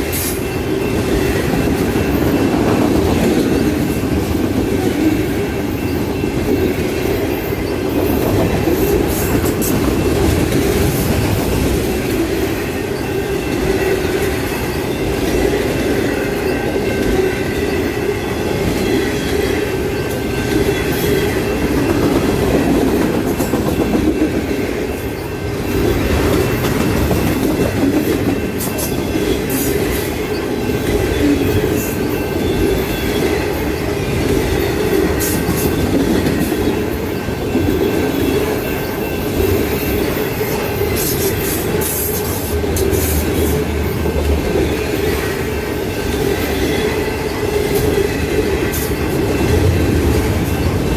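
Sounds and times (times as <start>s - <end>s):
steel wheels rumbling on rail: 0.0s - 50.9s.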